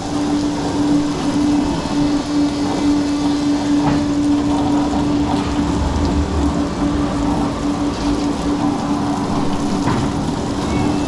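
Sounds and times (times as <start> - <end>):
amusement ride machinery humming: 0.0 - 11.0
constant rushing noise: 0.0 - 11.0.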